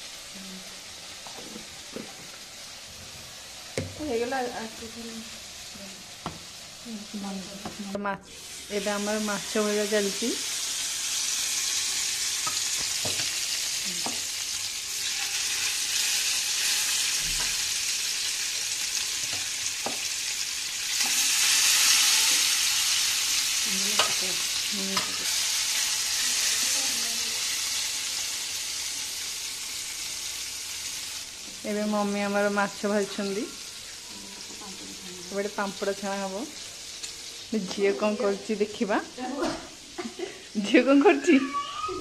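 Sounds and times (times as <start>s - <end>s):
fish sizzling in frying pan: 0.0s - 42.0s.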